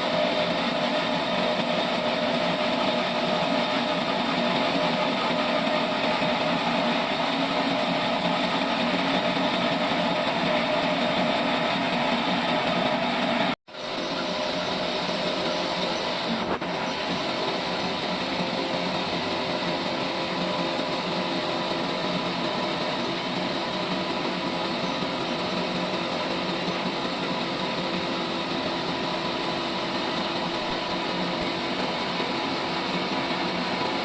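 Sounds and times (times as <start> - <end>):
saw mechanical whine: 0.0 - 34.0.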